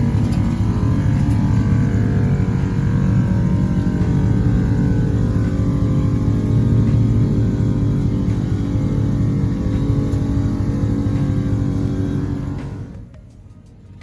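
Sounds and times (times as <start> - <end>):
truck engine rough rumble: 0.0 - 14.0.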